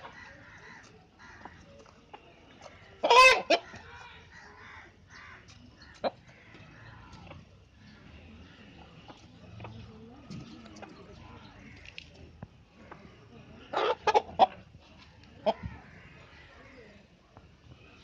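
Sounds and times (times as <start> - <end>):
chickens clucking softly: 0.0 - 4.8, 5.4 - 16.6.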